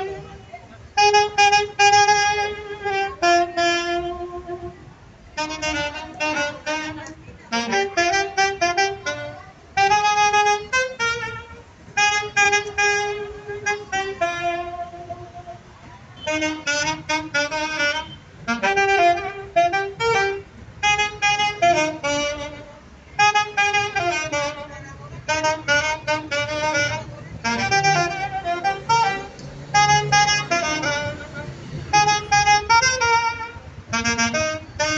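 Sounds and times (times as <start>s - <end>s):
solo saxophone melody: 0.0s - 34.9s.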